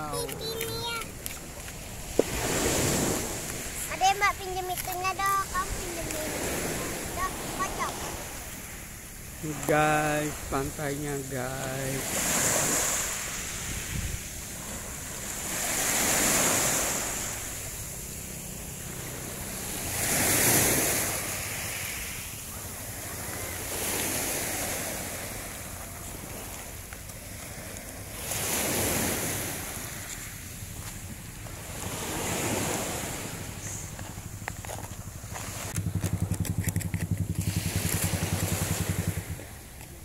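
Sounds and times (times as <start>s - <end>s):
small waves breaking on shore: 0.0s - 40.0s.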